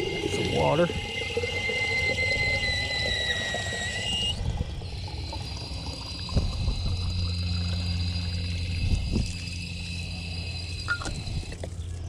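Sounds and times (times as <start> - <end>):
steady high tones: 0.0 - 11.5
low steady hum: 0.0 - 12.0.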